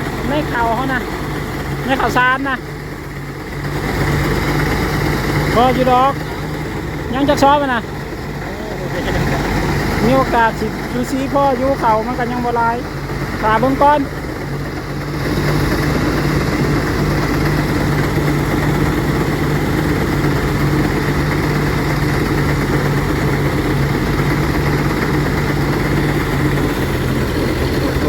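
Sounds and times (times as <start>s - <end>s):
threshing machine humming: 0.0s - 28.0s.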